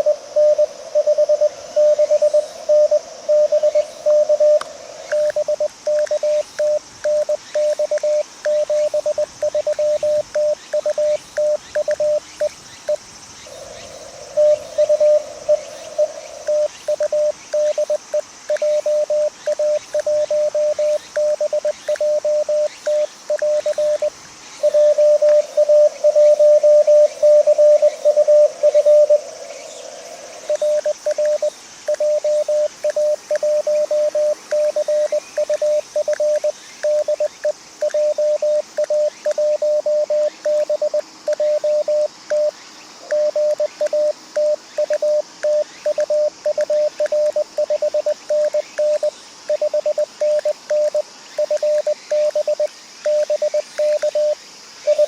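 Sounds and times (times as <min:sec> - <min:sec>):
morse code tone: 0:00.0 - 0:12.5, 0:14.3 - 0:29.2, 0:30.6 - 0:42.5, 0:43.1 - 0:55.0
radio receiver hiss: 0:00.0 - 0:55.0.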